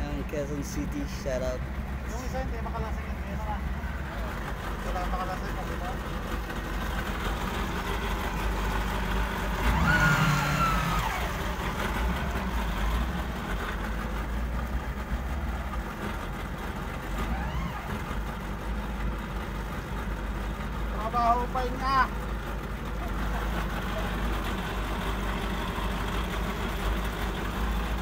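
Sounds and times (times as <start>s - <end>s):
motorboat engine humming: 0.0s - 28.0s.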